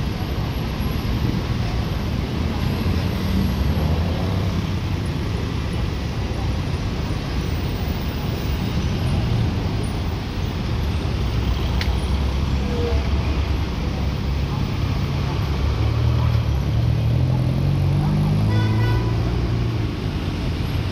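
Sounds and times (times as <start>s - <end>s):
heavy road traffic rumble: 0.0s - 20.9s.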